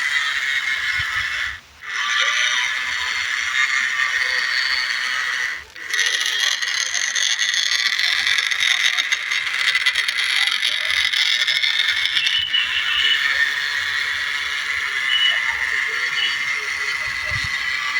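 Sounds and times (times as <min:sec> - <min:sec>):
toy electric motor whining: 0:00.0 - 0:17.9.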